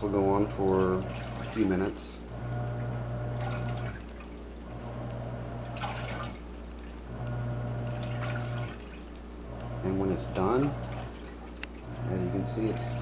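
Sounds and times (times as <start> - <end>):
washing machine motor humming: 0.0 - 13.0
water sloshing in tub: 0.0 - 13.0.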